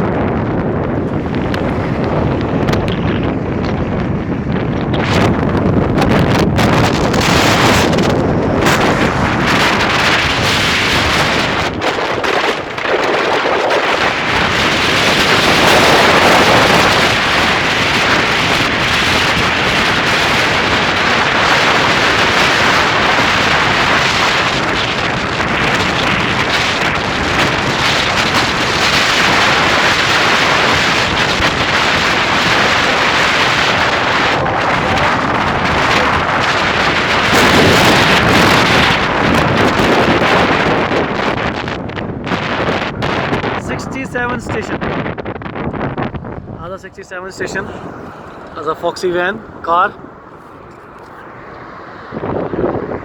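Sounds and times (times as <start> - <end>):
road noise: 0.0 - 53.0
wind buffeting microphone: 0.0 - 53.0.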